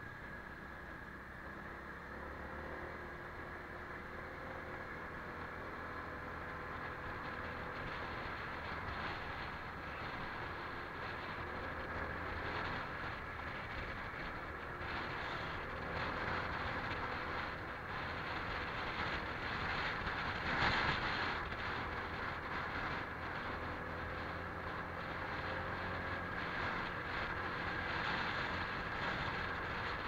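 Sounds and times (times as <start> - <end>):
scooter engine running: 0.0 - 30.0
wind and road noise: 0.0 - 30.0.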